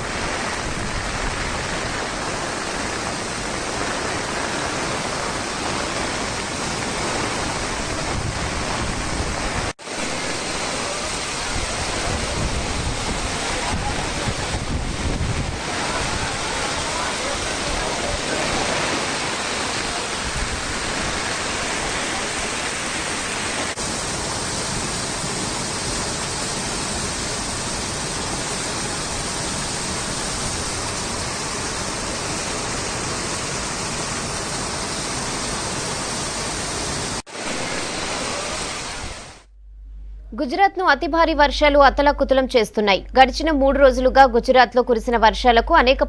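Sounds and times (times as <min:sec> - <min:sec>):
floodwater rushing: 0:00.0 - 0:39.5.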